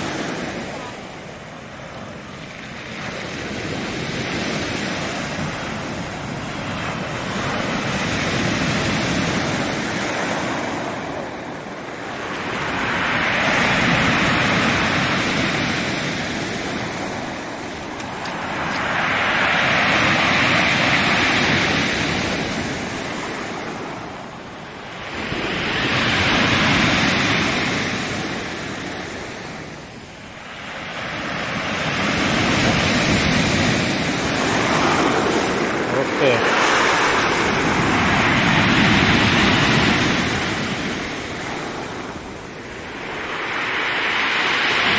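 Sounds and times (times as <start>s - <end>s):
surf crashing on pebble beach: 0.0s - 44.9s.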